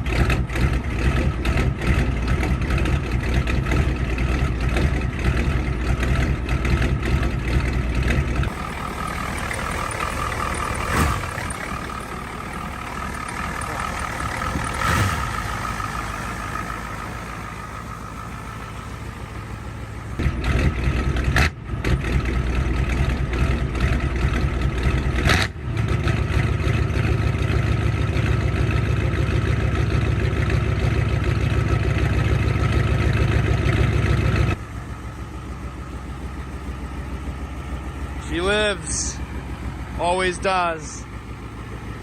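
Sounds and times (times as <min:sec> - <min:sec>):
diesel engine starting and running: 0:00.0 - 0:42.0.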